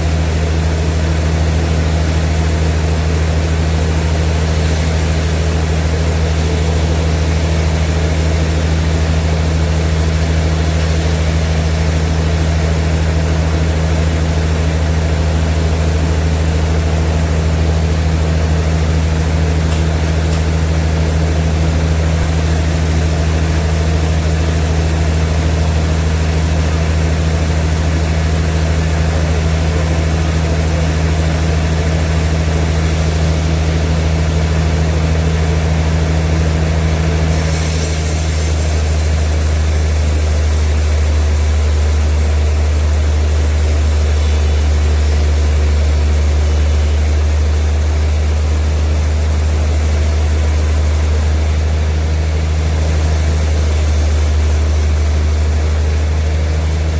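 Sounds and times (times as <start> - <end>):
sawmill machinery humming: 0.0 - 56.9.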